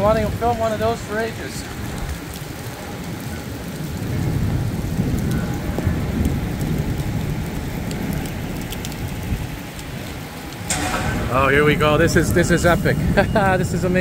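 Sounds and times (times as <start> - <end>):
heavy rain on pavement: 0.0 - 14.0
thunder rumbling: 0.0 - 14.0.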